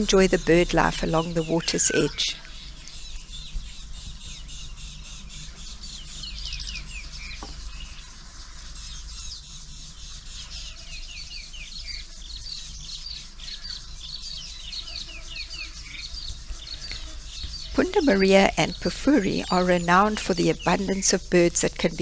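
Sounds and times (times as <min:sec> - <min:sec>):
low steady hum: 0:00.0 - 0:12.3, 0:15.6 - 0:22.0
birds chirping: 0:00.0 - 0:22.0.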